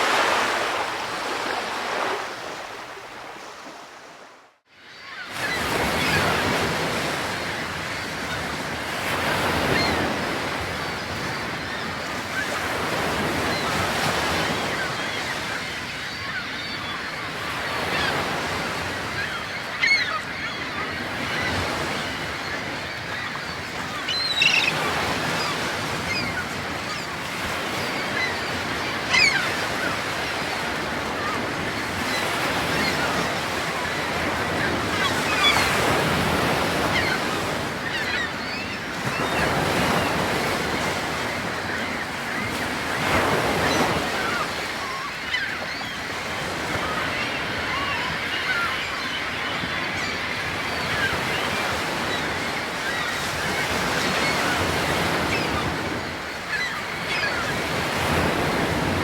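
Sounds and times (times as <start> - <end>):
surf washing on shore: 0.0 - 4.5, 5.2 - 59.0
bird calling: 9.4 - 59.0.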